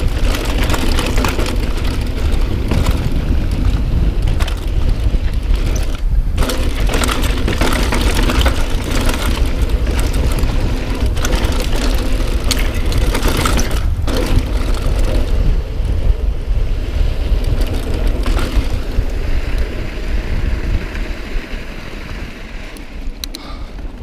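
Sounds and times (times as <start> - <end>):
bike tyres and frame rattling: 0.0 - 24.0
wind rumbling on microphone: 0.0 - 24.0.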